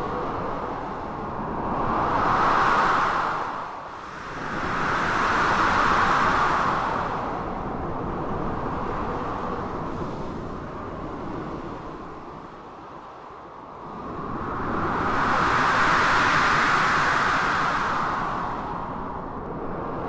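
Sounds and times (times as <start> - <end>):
blizzard wind: 0.0 - 20.0.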